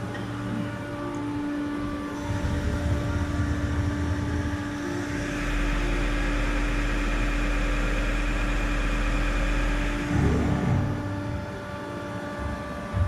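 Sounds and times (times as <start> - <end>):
drive drone with whine: 0.0 - 13.0
lathe humming: 0.0 - 13.0.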